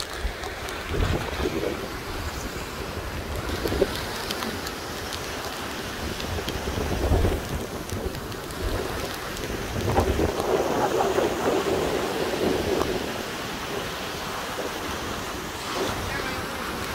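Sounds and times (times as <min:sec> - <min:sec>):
wind buffeting microphone: 0:00.0 - 0:05.1, 0:05.8 - 0:16.9
surf breaking on beach: 0:00.0 - 0:16.9.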